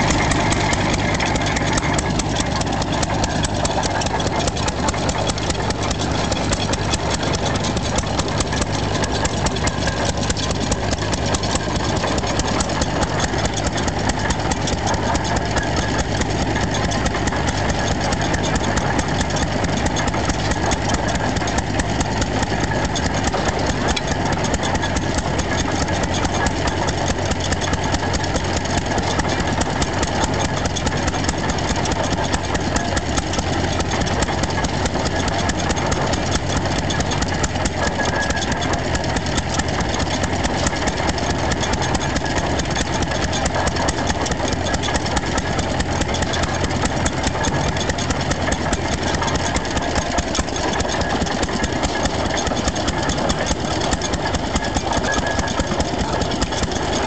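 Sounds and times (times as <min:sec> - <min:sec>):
stationary engine running: 0:00.0 - 0:57.0.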